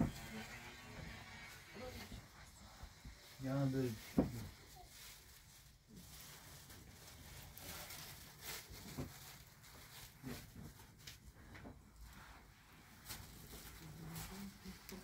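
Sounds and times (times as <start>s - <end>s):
faint soft knocks and rustles: 1.9s - 15.0s.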